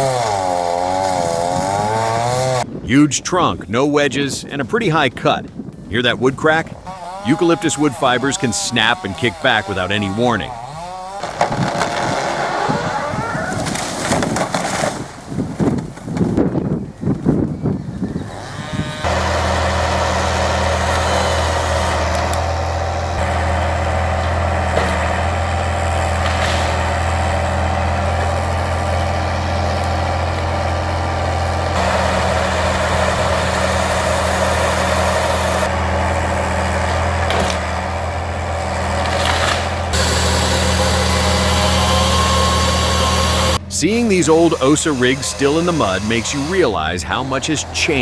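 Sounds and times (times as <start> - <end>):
heavy machine engine whining: 0.0 - 4.3, 5.6 - 48.0.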